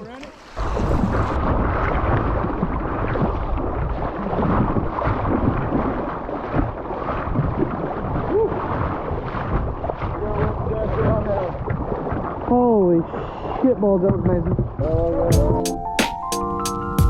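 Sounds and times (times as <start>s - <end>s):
river water rushing and splashing: 0.0s - 14.6s
low rumble on microphone: 0.0s - 15.6s.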